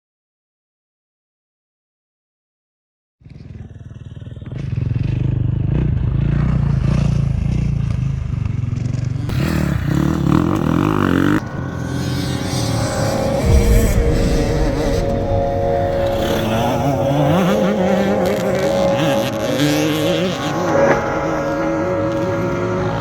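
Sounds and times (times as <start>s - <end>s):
motocross bike engine revving: 3.6s - 23.0s.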